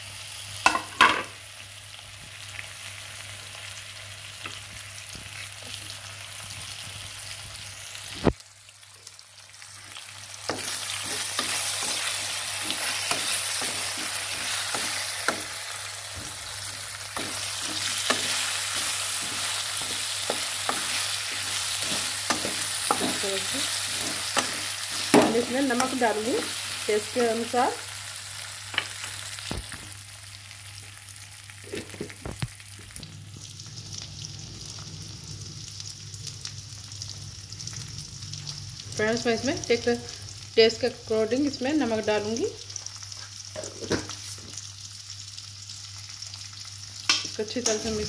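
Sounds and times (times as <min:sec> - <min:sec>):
potato slices sizzling in oil: 0:00.0 - 0:48.0.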